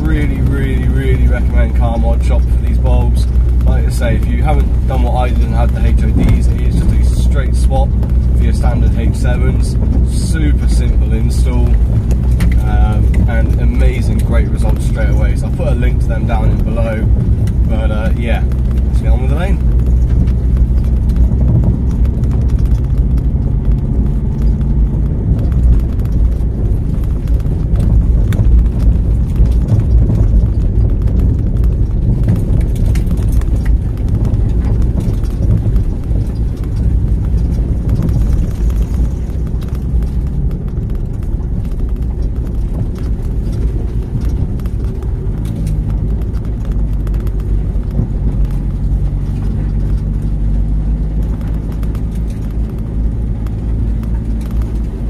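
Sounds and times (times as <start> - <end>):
body and suspension rattling: 0.0 - 55.0
low car engine note: 0.0 - 55.0.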